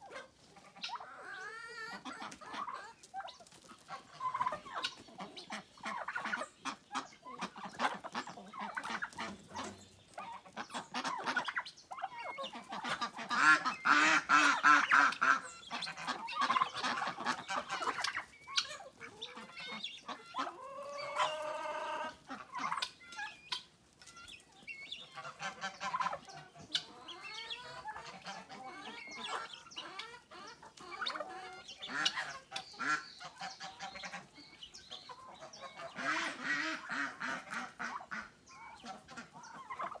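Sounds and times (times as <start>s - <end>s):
poultry clucking and honking: 0.0s - 40.0s.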